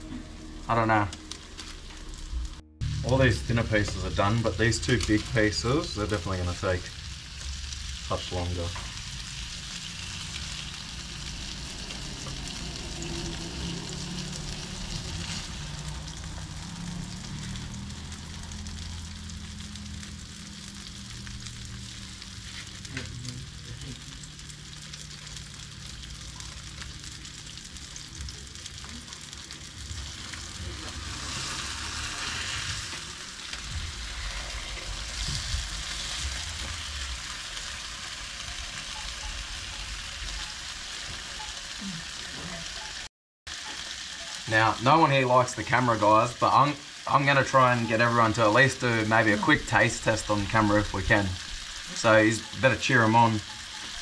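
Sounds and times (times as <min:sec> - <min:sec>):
fish sizzling in oil: 0:00.2 - 0:54.0.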